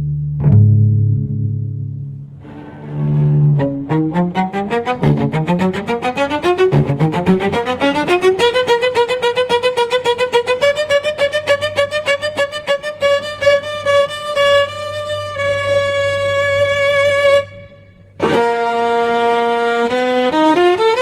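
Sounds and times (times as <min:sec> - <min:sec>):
horror music on bowed strings: 0:02.4 - 0:19.6.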